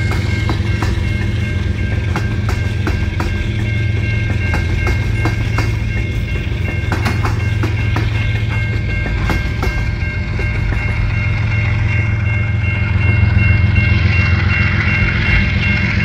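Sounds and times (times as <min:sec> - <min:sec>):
wheels clunking over rail joints: 0:00.0 - 0:15.0
high-pitched ring: 0:00.0 - 0:16.0
train wheels rumbling on rail: 0:00.0 - 0:16.0.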